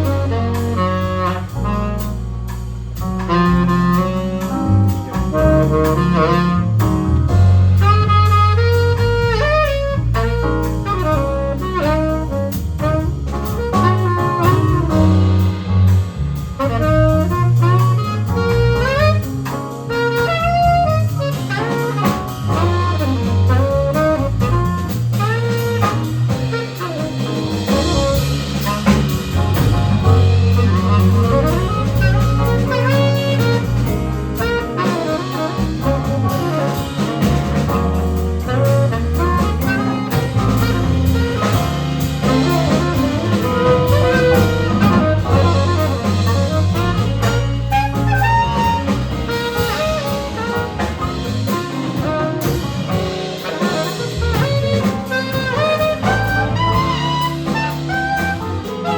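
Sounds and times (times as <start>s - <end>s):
drum kit: 0.0s - 58.9s
saxophones and brass: 0.0s - 58.9s
walking bass line: 0.0s - 58.9s.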